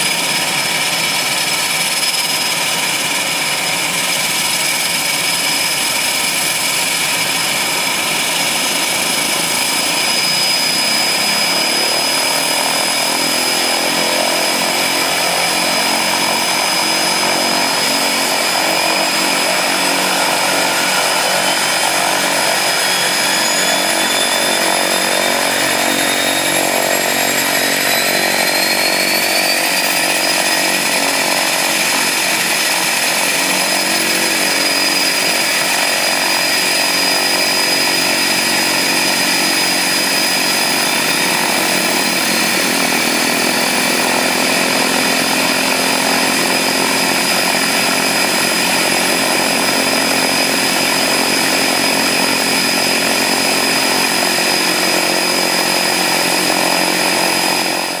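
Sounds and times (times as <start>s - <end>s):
turboprop engines running: 0.0s - 58.0s.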